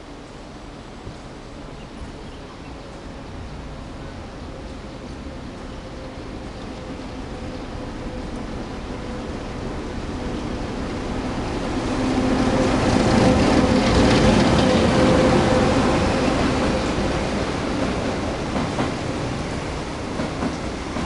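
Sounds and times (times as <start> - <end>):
train passing through station: 0.0 - 21.0.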